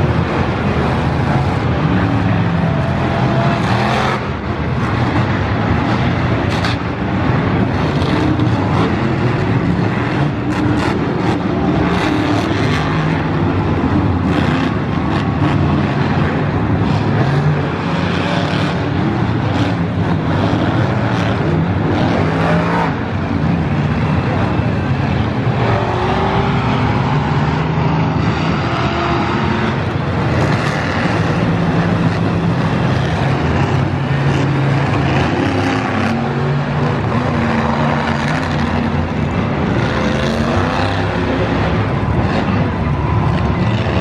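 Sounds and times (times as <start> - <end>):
truck engines revving: 0.0 - 44.0.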